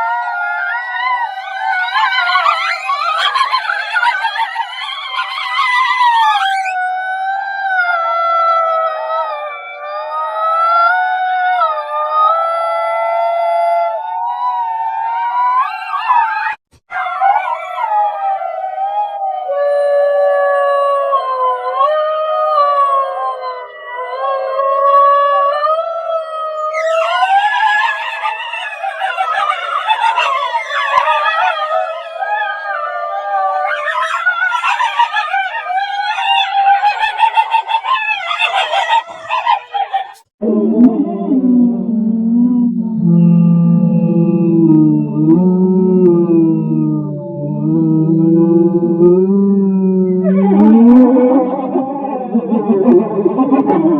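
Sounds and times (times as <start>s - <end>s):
wolves howling: 0.0s - 53.9s.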